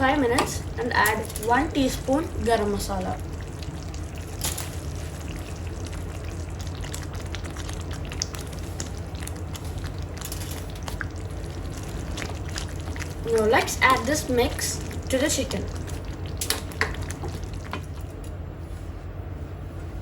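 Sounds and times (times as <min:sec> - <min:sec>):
low steady hum: 0:00.0 - 0:20.0
sauce sizzling in a pan: 0:01.5 - 0:18.0.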